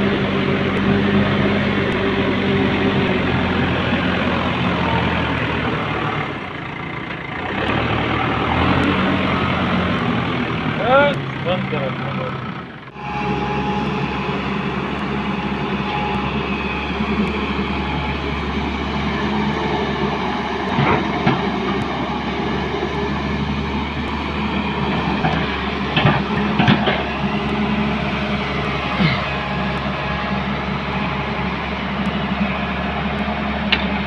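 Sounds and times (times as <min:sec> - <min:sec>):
diesel engines running: 0:00.0 - 0:34.0.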